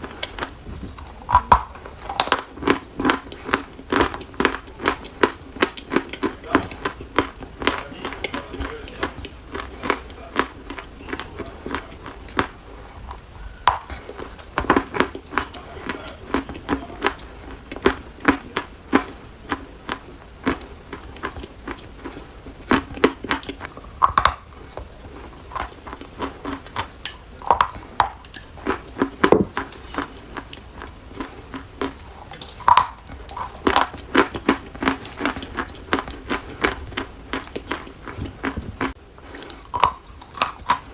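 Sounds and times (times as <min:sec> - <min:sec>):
chalk crunching while chewed: 0:00.0 - 0:40.9.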